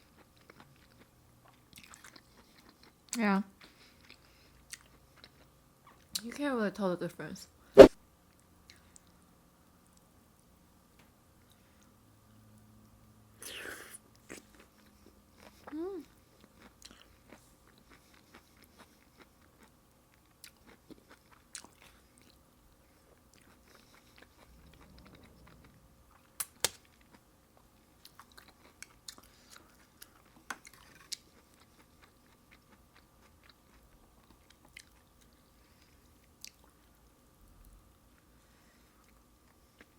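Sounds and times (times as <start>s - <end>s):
person chewing food: 0.0s - 6.2s, 13.4s - 39.9s.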